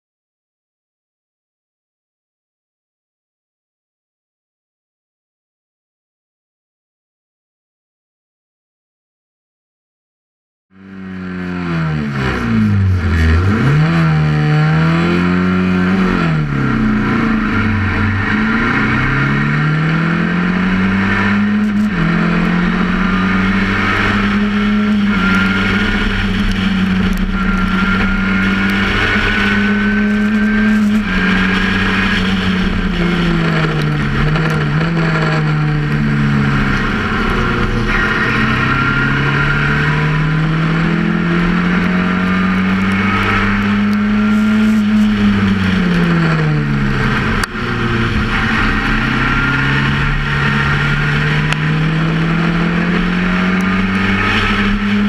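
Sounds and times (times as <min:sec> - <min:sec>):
race car engine revving: 0:10.8 - 0:55.0
wind and road noise: 0:10.8 - 0:55.0.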